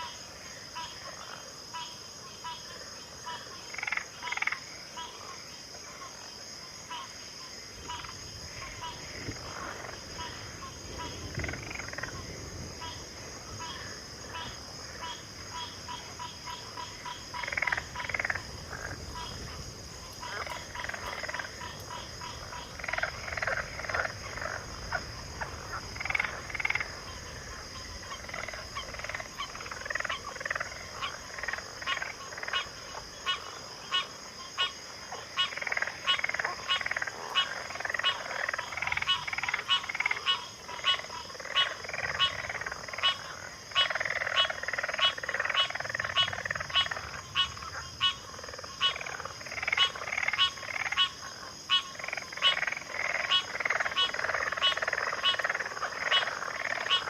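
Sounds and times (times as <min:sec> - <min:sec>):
frogs croaking and trilling: 0:00.0 - 0:57.0.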